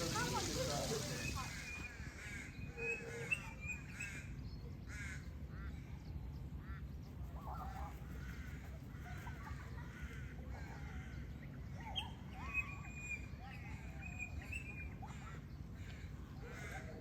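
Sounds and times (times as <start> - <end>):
birds giving harsh calls: 0.0 - 17.0.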